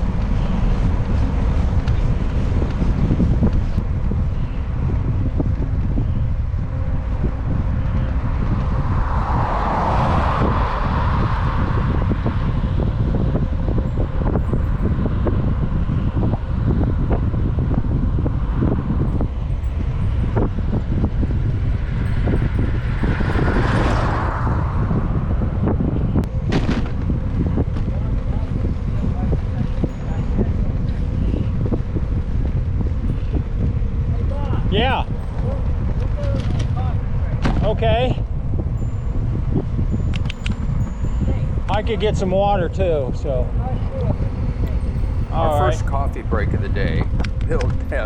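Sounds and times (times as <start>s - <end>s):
motor vehicles passing: 0.0s - 48.0s
wind rumble on microphone: 0.0s - 48.0s.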